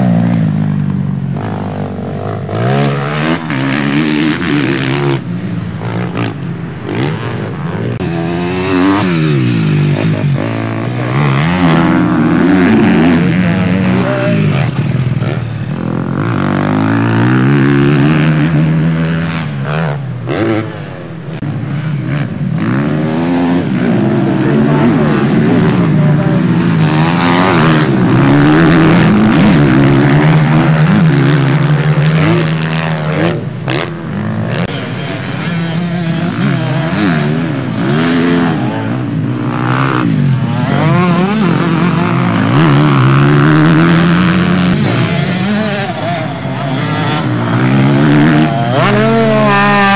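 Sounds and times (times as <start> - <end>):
motocross bikes revving past: 0.0 - 49.9.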